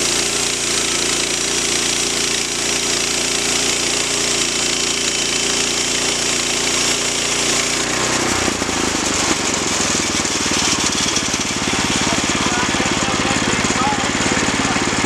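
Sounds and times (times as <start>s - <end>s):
gasoline engine running: 0.0s - 15.0s
saw blade cutting log: 0.0s - 15.0s.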